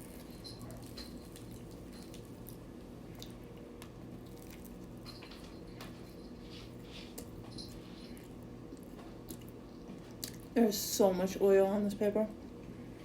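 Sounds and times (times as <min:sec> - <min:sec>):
person chewing food: 0:00.0 - 0:10.5
low steady hum: 0:00.0 - 0:13.0.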